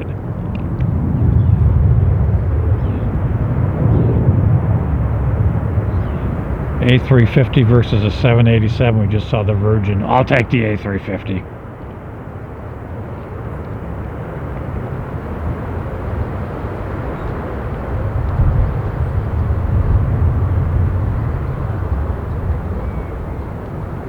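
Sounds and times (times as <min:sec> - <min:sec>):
jet airliner engine noise: 0:00.0 - 0:24.0
wind rumble on microphone: 0:00.0 - 0:24.0.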